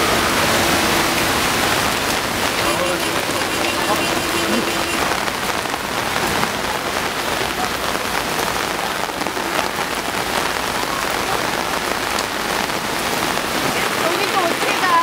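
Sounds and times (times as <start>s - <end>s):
floodwater rushing: 0.0s - 15.0s
heavy rain pouring: 0.0s - 15.0s.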